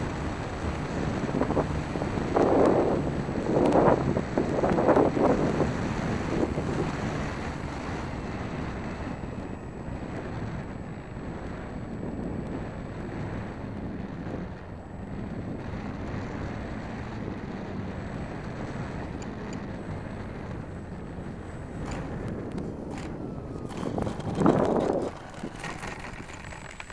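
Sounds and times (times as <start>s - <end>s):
wind over microphone: 0.0s - 26.9s.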